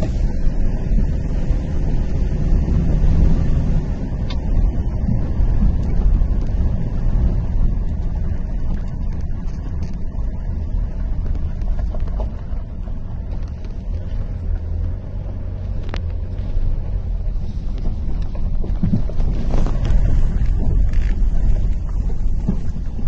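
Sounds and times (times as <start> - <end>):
car rumbling on dirt road: 0.0 - 23.0.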